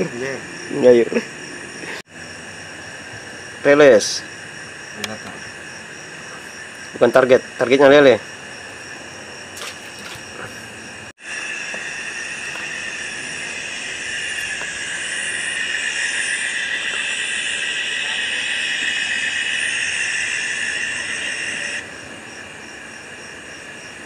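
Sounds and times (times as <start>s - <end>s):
night insects chorus: 0.0s - 24.0s.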